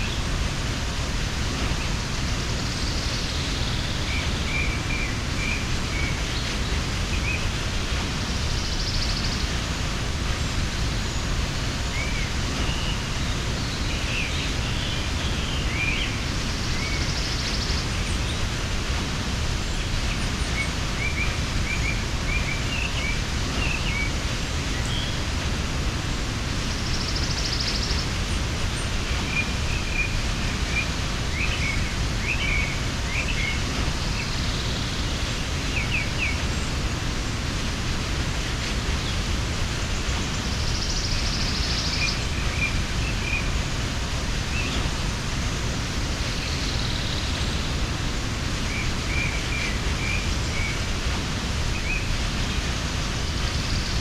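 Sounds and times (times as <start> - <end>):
small birds chirping: 0.0 - 54.0
waterfall rushing: 0.0 - 54.0.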